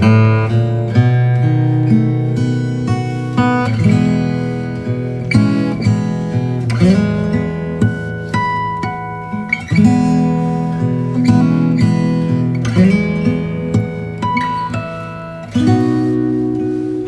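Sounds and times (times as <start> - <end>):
acoustic guitar strumming: 0.0 - 17.0
picked guitar notes: 0.0 - 17.0.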